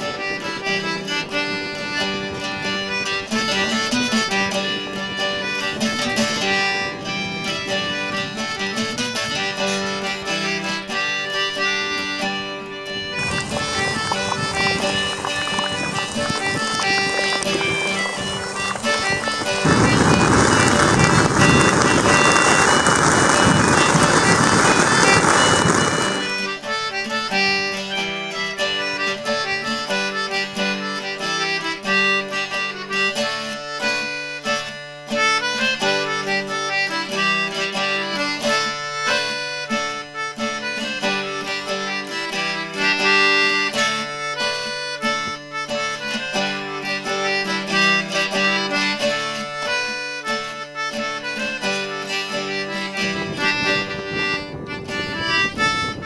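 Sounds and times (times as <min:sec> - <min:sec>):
instrumental background music: 0:00.0 - 0:56.0.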